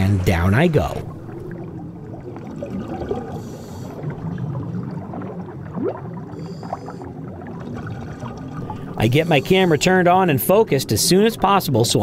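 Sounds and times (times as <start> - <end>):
underwater bubbling: 0.0 - 12.0
water rushing: 0.0 - 12.0.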